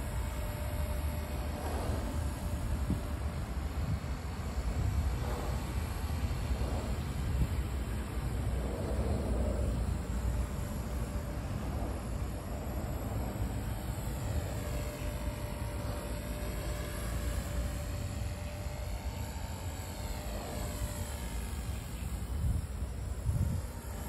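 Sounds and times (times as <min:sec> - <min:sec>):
remote-control helicopter whine: 0:00.0 - 0:24.0.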